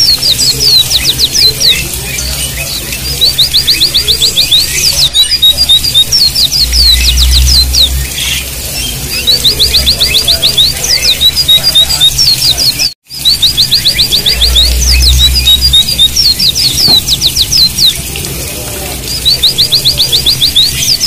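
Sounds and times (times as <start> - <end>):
birds singing rolling trills: 0.0 - 21.0.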